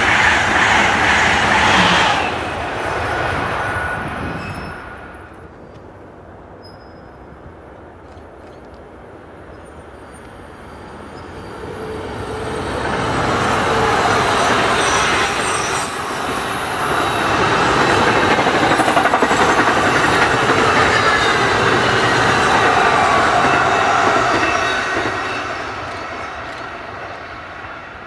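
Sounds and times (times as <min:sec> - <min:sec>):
train wheels running on rails: 0:00.0 - 0:28.0.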